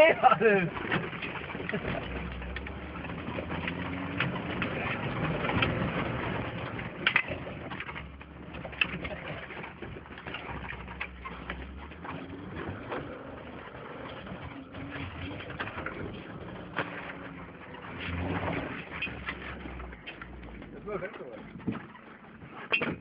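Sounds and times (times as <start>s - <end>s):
body knocks and rattles: 0.0s - 23.0s
vehicle engine droning: 0.0s - 23.0s.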